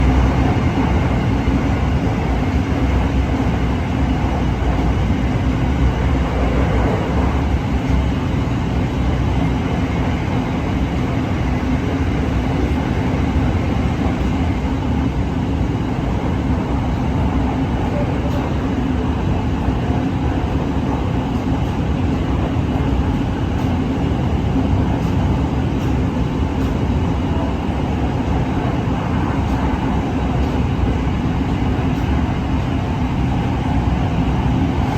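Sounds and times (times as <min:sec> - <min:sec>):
train ride rumble and hum: 0:00.0 - 0:34.9.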